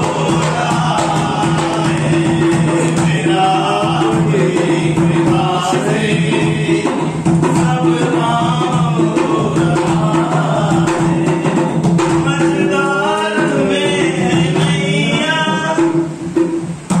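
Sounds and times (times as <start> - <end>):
men singing devotional song: 0.0 - 16.2
hand drum strokes: 0.0 - 17.0.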